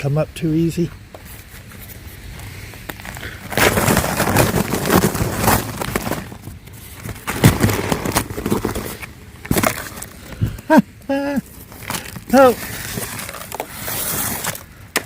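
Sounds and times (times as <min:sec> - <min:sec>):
ice crackling and crunching: 0:01.2 - 0:15.0.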